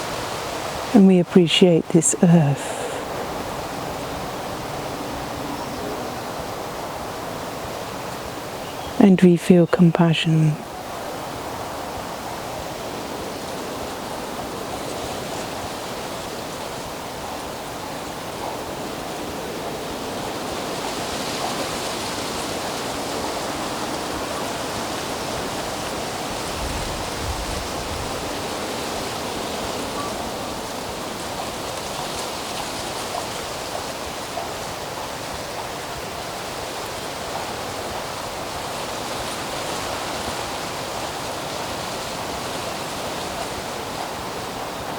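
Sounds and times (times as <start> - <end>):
rushing outdoor ambience: 0.0 - 44.9.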